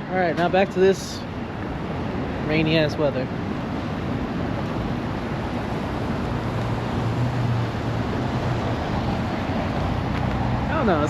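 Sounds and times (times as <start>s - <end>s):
car road noise on wet road: 0.0s - 11.0s.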